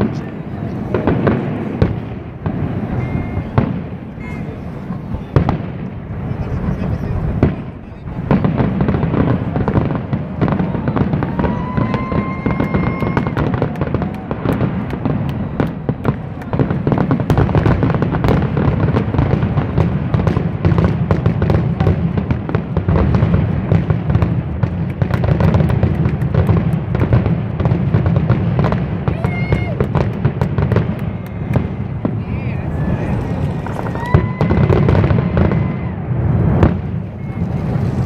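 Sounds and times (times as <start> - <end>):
deep continuous rumble: 0.0 - 38.0
fireworks bangs and crackles: 0.0 - 38.0
rising firework whistle: 0.9 - 5.7, 8.3 - 38.0.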